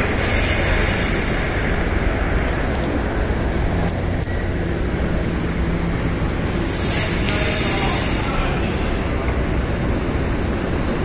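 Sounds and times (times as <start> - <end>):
escalator rumbling: 0.0 - 11.0.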